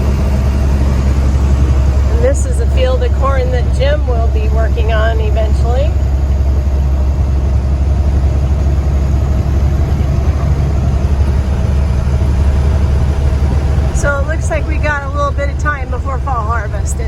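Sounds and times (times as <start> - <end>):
road noise inside cab: 0.0 - 17.0
truck engine drone: 0.0 - 17.0.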